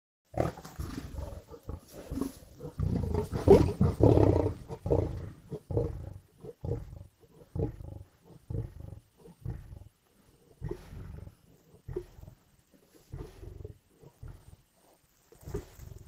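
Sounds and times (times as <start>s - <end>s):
lion growling and snarling: 0.3s - 16.0s.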